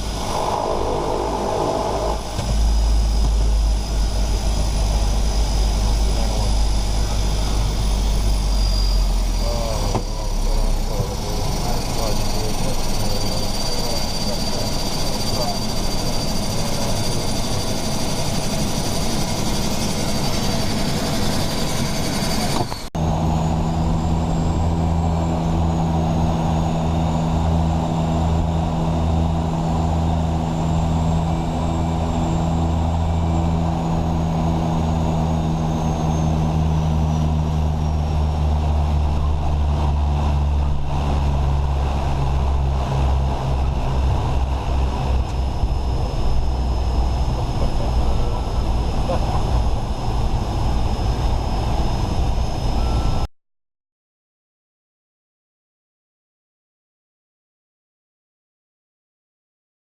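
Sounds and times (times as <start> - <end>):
deep propeller hum: 0.0 - 53.3
high whine: 0.0 - 53.3
turboprop engines droning: 0.0 - 53.3.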